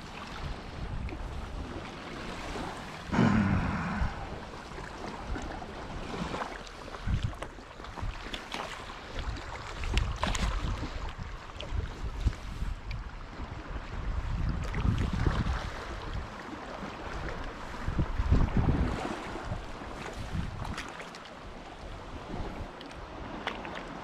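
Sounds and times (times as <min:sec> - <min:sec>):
wind buffeting the microphone: 0:00.0 - 0:08.3, 0:09.0 - 0:20.9, 0:21.8 - 0:23.4
sea water sloshing: 0:00.0 - 0:24.0.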